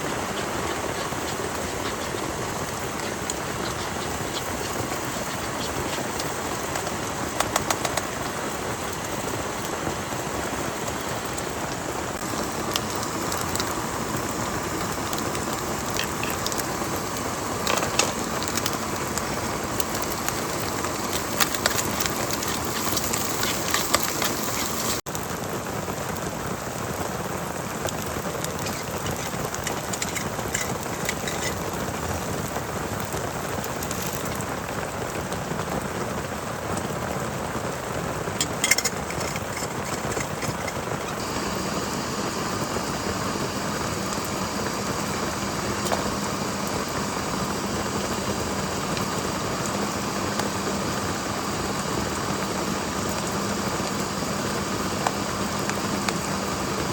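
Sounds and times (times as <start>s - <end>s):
crackling spatters: 0.0s - 56.9s
heavy rain hissing: 0.0s - 56.9s.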